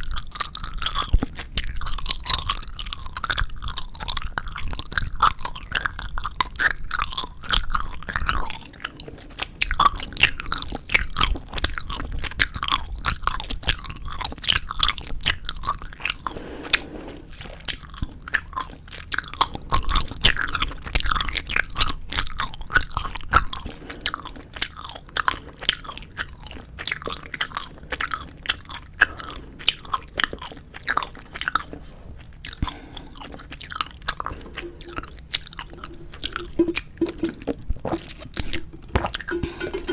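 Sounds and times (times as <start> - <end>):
chewing gummy candies: 0.0 - 39.7.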